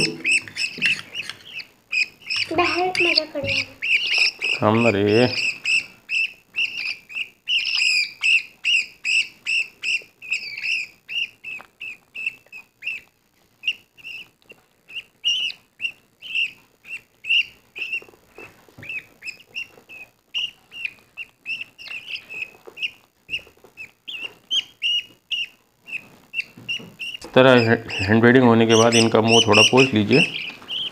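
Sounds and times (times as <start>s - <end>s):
budgerigar chicks cheeping: 0.0s - 30.9s.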